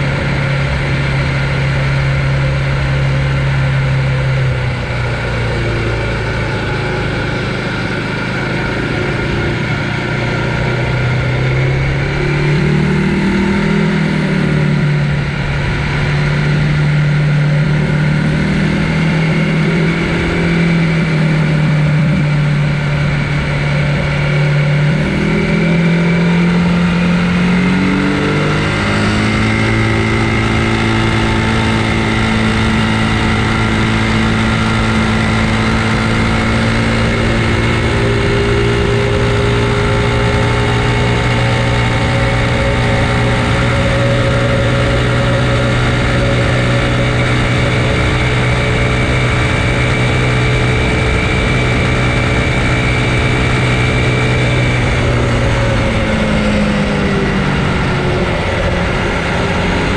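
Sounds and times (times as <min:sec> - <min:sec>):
motor hum changing pitch: 0:00.0 - 0:59.9.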